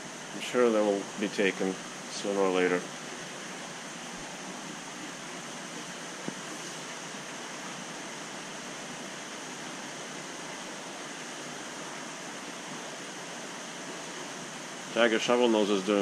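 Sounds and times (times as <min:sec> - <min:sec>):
water rushing and bubbling: 0:00.0 - 0:16.0.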